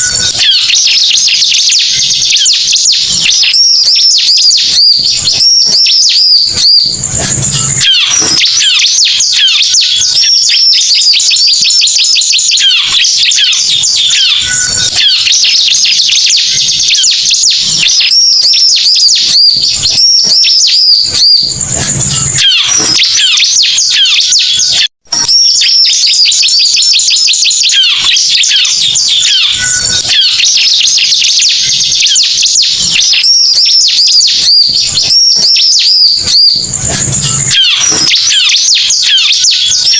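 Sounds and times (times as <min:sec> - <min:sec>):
bird chirping and trilling song: 0:00.0 - 0:39.9.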